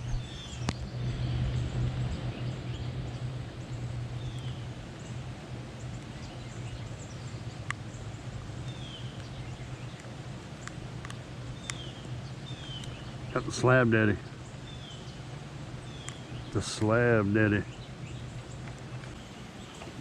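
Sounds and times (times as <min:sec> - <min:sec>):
steady rain: 0:00.0 - 0:16.9
low hum: 0:00.0 - 0:20.0.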